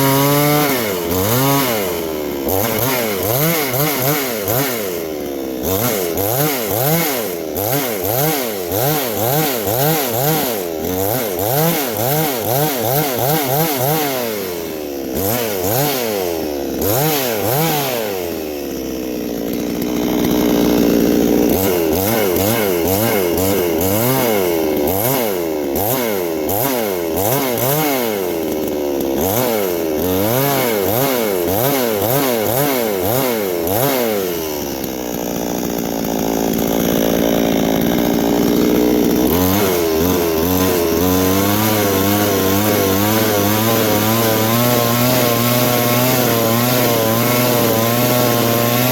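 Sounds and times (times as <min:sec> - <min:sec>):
chainsaw engine revving: 0:00.0 - 0:48.9.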